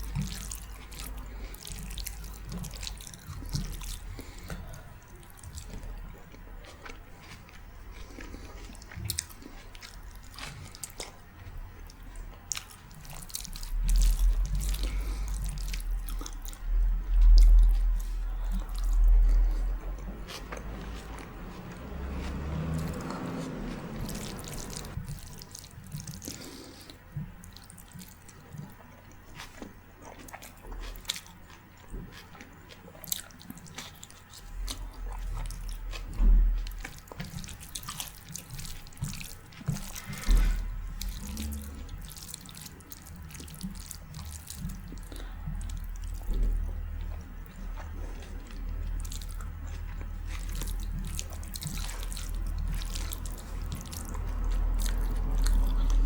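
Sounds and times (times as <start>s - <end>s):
wet chewing and mouth sounds: 0.0s - 56.0s.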